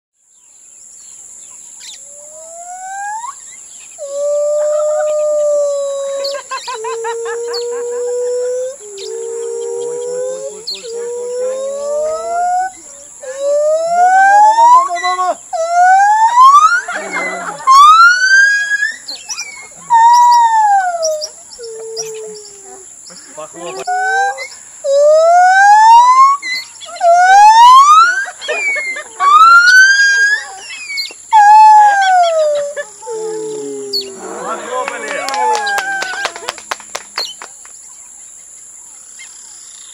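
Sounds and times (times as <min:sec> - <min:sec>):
gibbon whooping song: 0:02.3 - 0:03.4, 0:04.0 - 0:36.9.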